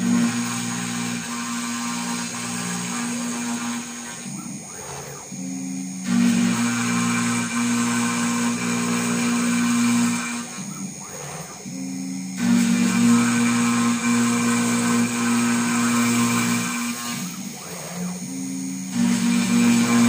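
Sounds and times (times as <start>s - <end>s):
router cutting plywood hum: 0.0s - 20.0s.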